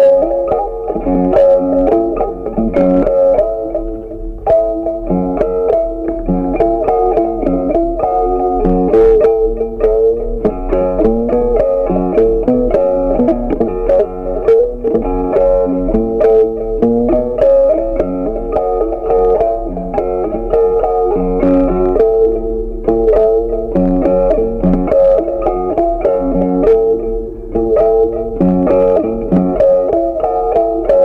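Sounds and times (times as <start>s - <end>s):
plucked-string melody: 0.0s - 31.0s.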